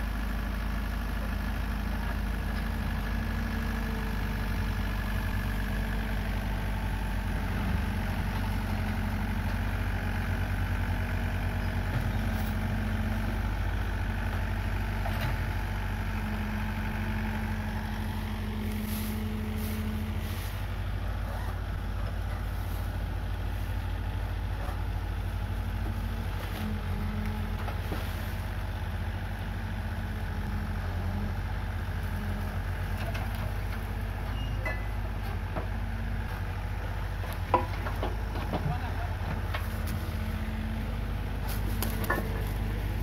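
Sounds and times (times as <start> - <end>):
diesel engine humming: 0.0 - 43.0.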